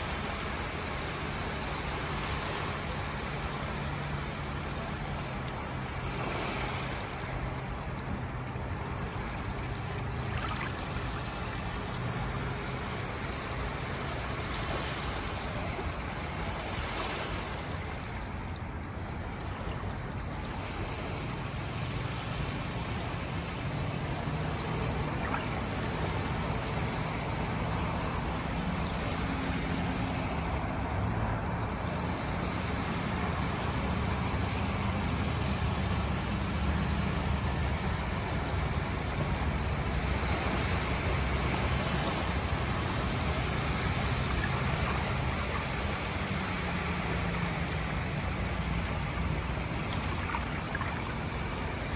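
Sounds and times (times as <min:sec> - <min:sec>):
small waves breaking on beach: 0:00.0 - 0:51.9.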